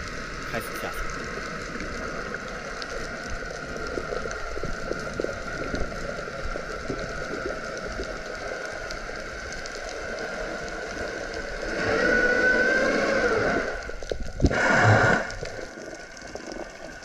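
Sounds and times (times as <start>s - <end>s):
steady underwater hiss: 0.0s - 17.0s
crackle of tiny clicks: 1.0s - 17.0s.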